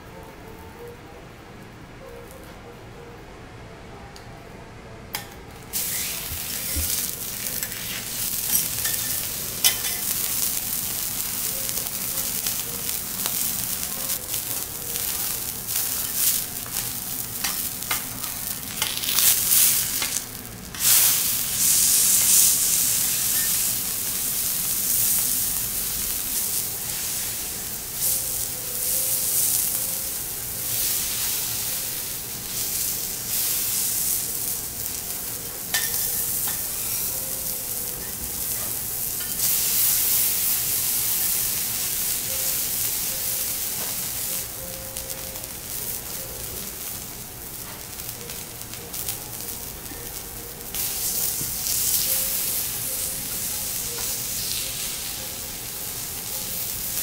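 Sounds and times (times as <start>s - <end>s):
steak sizzling on a griddle: 5.7s - 57.0s.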